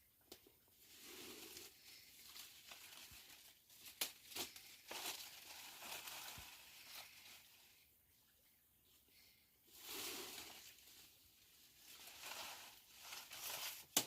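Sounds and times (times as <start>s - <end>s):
faint rustling and crinkling: 0.2s - 14.0s.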